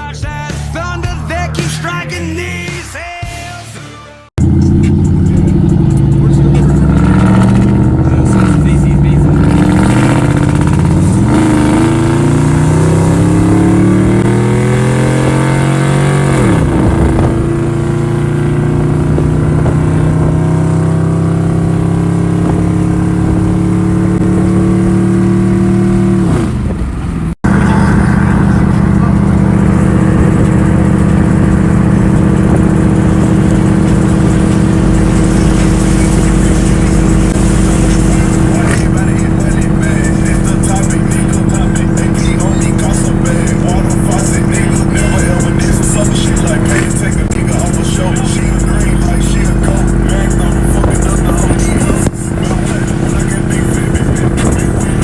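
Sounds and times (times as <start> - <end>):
loud vehicle engine accelerating: 4.3 - 55.0.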